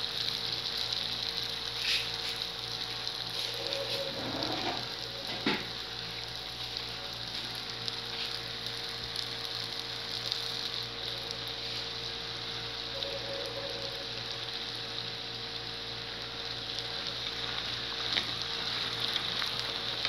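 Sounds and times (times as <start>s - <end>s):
dough sizzling in hot oil: 0.0s - 20.0s.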